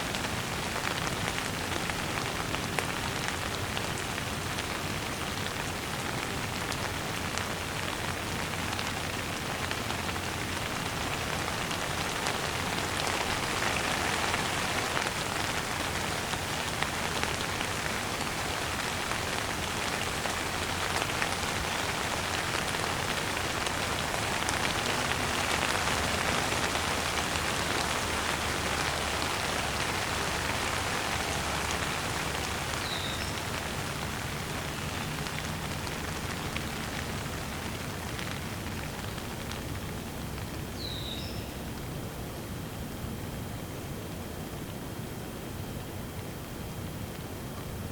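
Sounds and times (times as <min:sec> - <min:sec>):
gentle rain pattering: 0:00.0 - 0:47.9.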